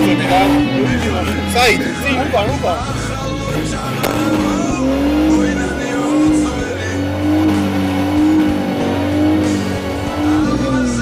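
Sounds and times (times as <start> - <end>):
music playing: 0.0 - 11.0
off-road engine revving: 0.0 - 11.0.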